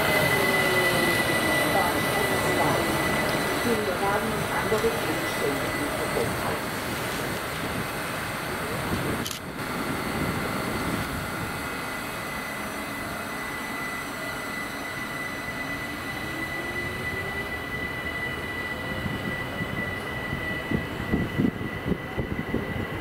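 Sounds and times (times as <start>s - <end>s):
train high whine: 0.0s - 23.0s
train motor whine rising in pitch: 0.0s - 23.0s.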